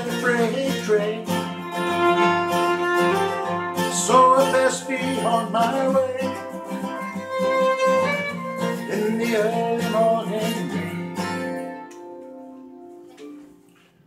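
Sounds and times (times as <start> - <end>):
acoustic guitar: 0.0 - 14.0
fiddle playing: 0.8 - 12.5.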